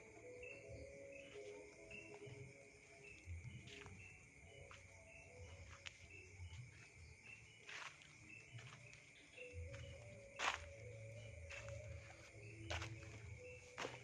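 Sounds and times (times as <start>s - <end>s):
insect chirps: 0.0s - 14.0s
insects trilling: 0.0s - 14.0s.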